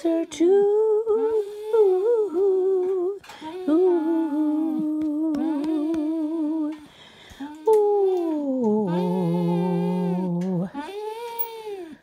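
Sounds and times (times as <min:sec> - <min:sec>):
person humming long notes: 0:00.8 - 0:06.8, 0:07.4 - 0:12.0.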